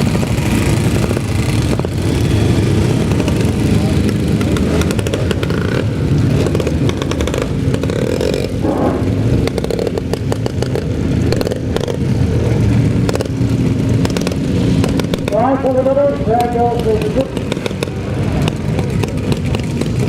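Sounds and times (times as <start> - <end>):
vehicle engines droning: 0.0 - 20.0.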